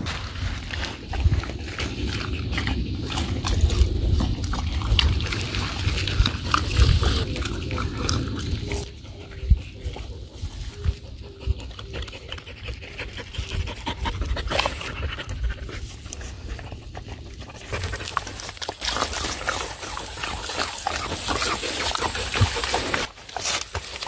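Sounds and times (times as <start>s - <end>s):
dogs tearing and chewing grass: 0.0s - 24.0s
grass rustling against microphone: 0.0s - 24.0s.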